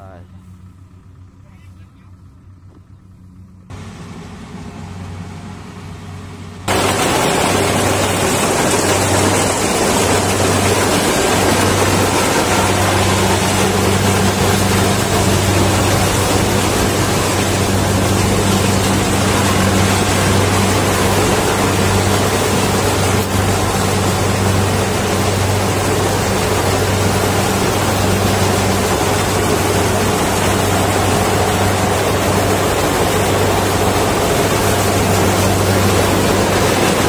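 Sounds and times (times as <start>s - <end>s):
combine harvester running: 0.0s - 37.0s.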